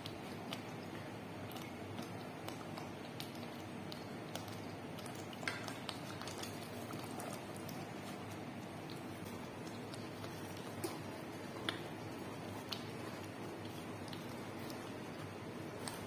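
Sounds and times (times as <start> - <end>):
thick sauce simmering and popping: 0.0 - 16.0
wooden spatula stirring: 2.0 - 16.0.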